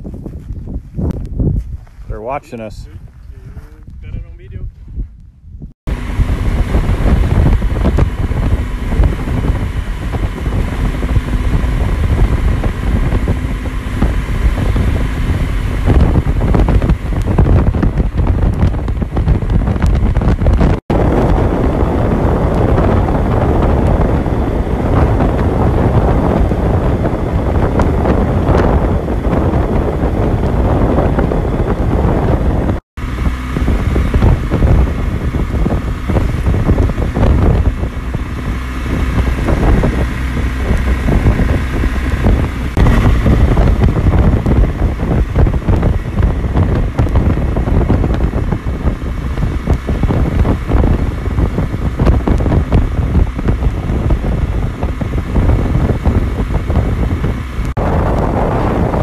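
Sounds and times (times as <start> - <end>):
wind rushing over microphone: 0.0 - 59.0
motorcycle engine running: 5.9 - 59.0.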